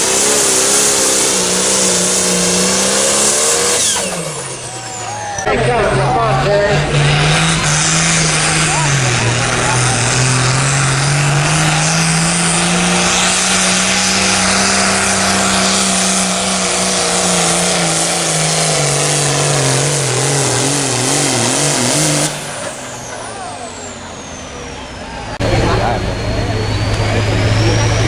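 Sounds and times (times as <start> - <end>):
tractor engine running under load: 0.0 - 28.0.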